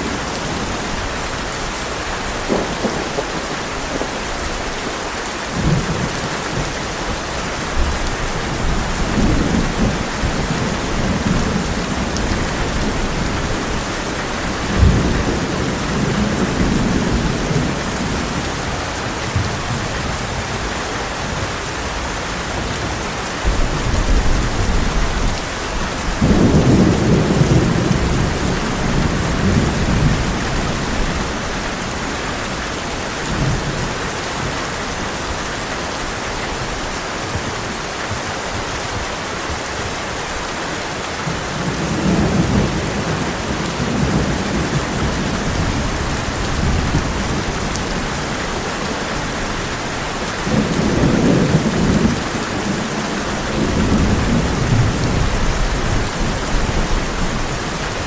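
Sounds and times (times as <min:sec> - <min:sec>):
heavy rain on a tin roof: 0:00.0 - 0:58.0
thunder rumbling: 0:02.1 - 0:20.7, 0:22.7 - 0:34.5, 0:41.3 - 0:58.0.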